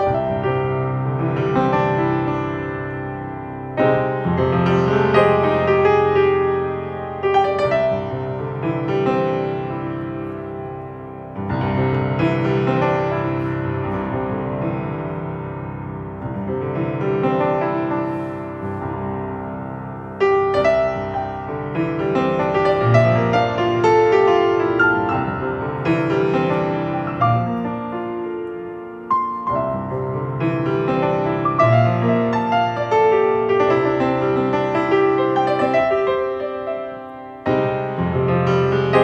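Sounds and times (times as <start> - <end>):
solo piano: 0.0 - 39.0.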